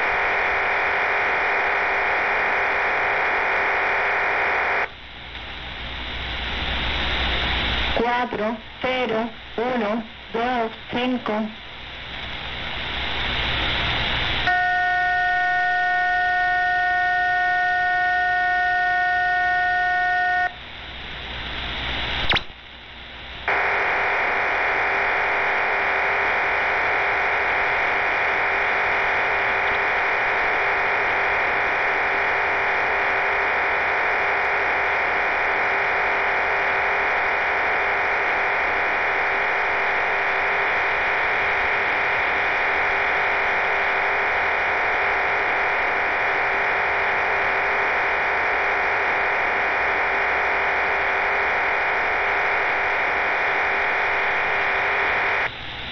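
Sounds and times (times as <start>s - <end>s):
dense hissing data buzz: 0.0s - 55.9s.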